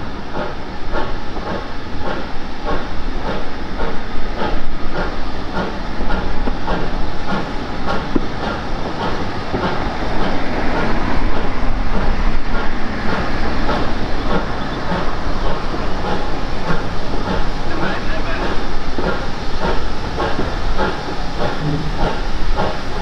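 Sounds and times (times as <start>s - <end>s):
train wheels clicking over rail joints: 0.0s - 23.0s.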